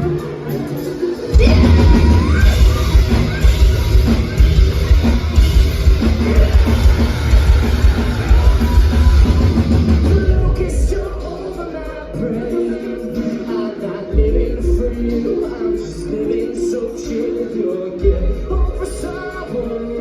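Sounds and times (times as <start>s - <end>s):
pounding drum kit: 0.0s - 17.4s
person singing: 0.0s - 20.0s
rock band playing live: 0.0s - 20.0s.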